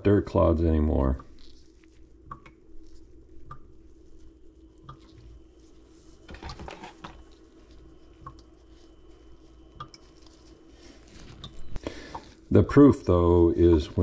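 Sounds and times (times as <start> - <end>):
wet rocks rubbed in gloved hands: 0.3 - 14.0
scrubbing rustle: 0.4 - 14.0
wet gloves squishing: 0.9 - 14.0.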